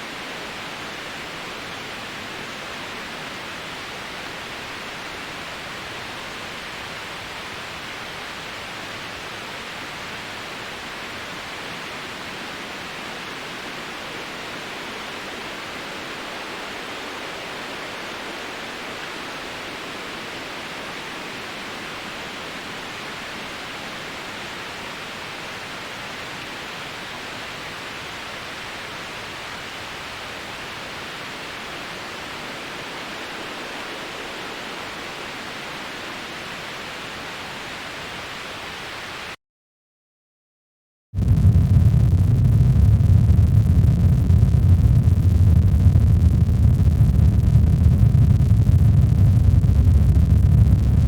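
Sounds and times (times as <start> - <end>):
white noise hiss: 0.0 - 39.4, 41.2 - 51.0.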